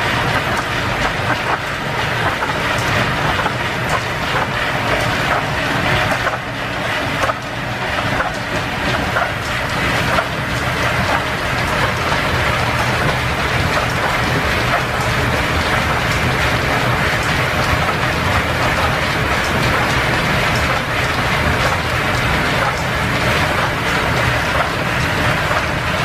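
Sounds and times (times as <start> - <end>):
metal lathe running: 0.0 - 26.0.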